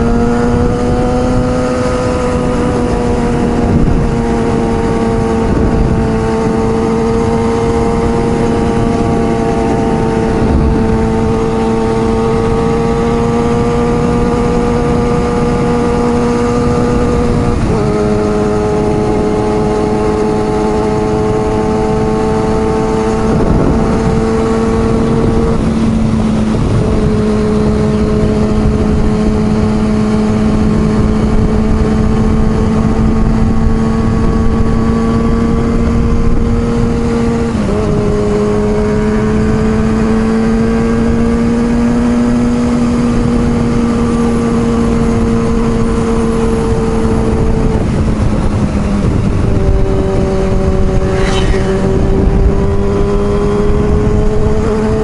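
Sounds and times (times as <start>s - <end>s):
motorcycle engine cruising: 0.0s - 55.0s
wind noise: 0.0s - 55.0s.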